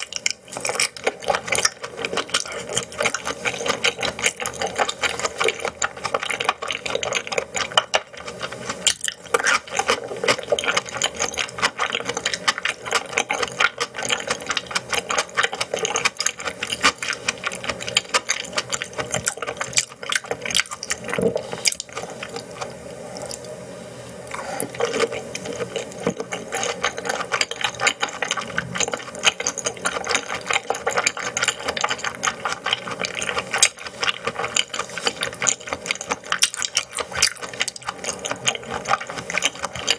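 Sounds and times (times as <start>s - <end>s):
wet chewing clicks and smacks: 0.0s - 39.9s.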